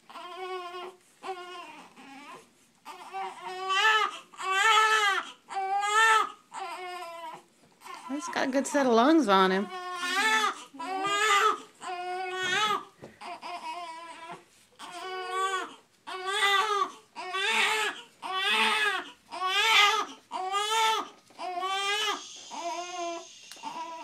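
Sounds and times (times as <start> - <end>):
infant crying: 0.0 - 8.5, 9.6 - 24.0.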